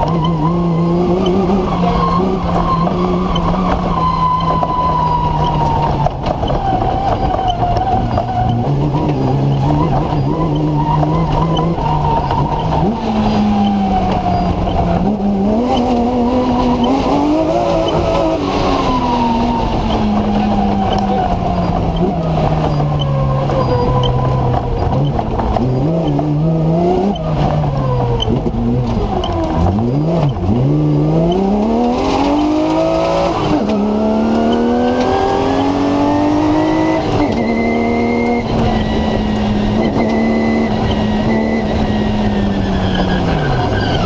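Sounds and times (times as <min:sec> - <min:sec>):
racing car engine revving: 0:00.0 - 0:44.0.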